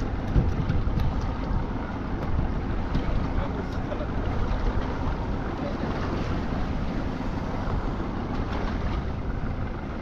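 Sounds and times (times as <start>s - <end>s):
sea water washing: 0.0s - 10.0s
wind rumbling on microphone: 0.0s - 10.0s.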